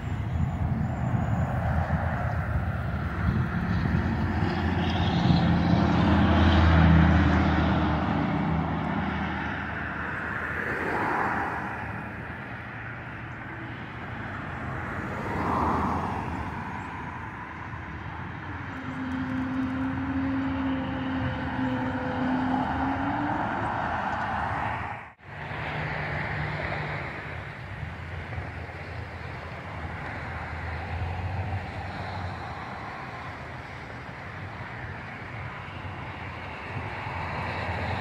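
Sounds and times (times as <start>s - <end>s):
airplane engine hum: 0.0s - 38.0s.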